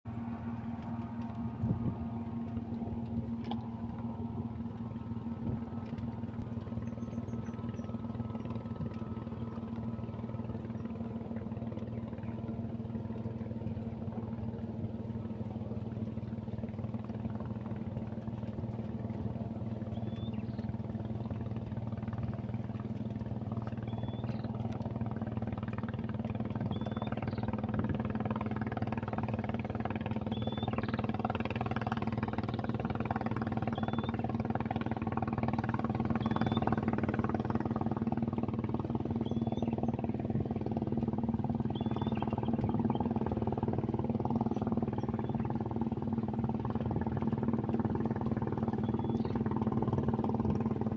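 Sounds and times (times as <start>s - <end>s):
small engine running: 0.2s - 50.9s.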